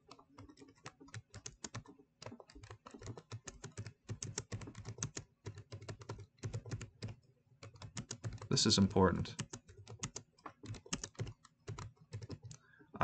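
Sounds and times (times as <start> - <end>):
computer keyboard typing: 0.0 - 12.6.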